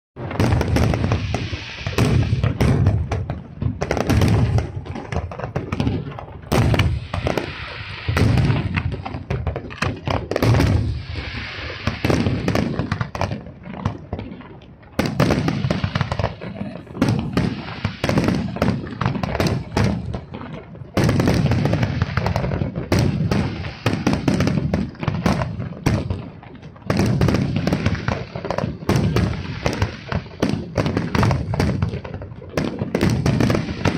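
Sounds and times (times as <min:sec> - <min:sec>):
firework booms and cracks: 0:00.2 - 0:33.9.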